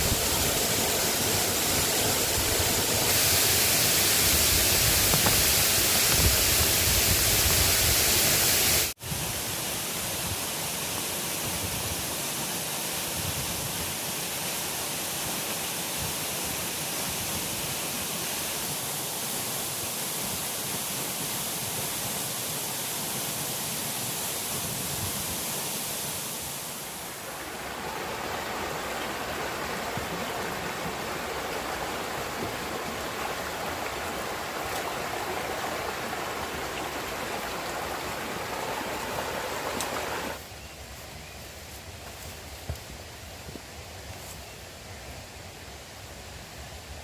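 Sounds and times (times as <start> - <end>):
flowing water rushing: 0.0 - 40.4.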